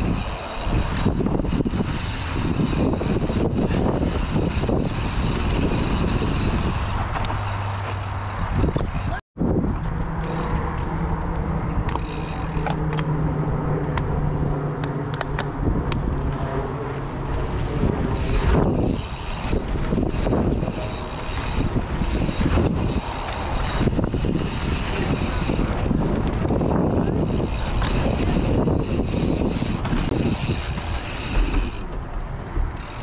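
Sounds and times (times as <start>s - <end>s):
tyres on packed dirt: 0.0s - 13.1s, 14.8s - 33.0s
bike clicking and rattling: 0.0s - 14.1s, 14.8s - 33.0s
wind rushing on microphone: 0.0s - 33.0s.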